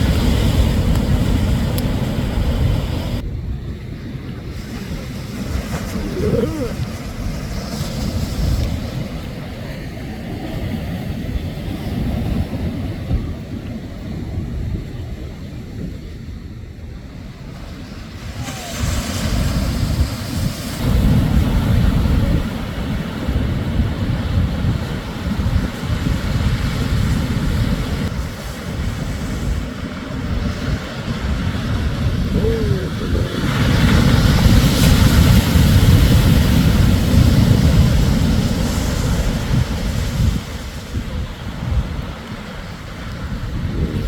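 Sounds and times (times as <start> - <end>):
waves breaking on beach: 0.0 - 16.3, 17.0 - 44.0
wind buffeting microphone: 0.0 - 44.0.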